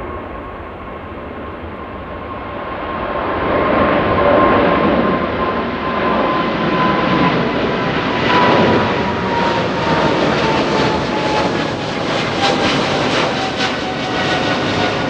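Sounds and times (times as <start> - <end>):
jet engine whine dropping in pitch: 0.0 - 15.0
jet engines roaring: 0.0 - 15.0.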